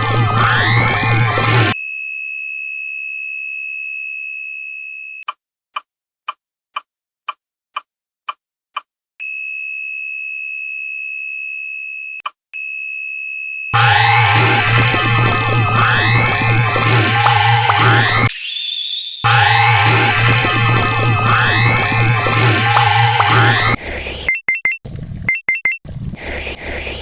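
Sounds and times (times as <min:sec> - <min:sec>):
high-pitched electronic alarm tone: 0:00.0 - 0:05.2, 0:09.2 - 0:25.8.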